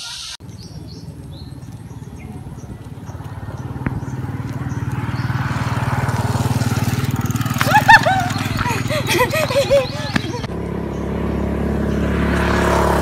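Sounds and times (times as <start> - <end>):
small motorcycle engine running: 0.4 - 13.0.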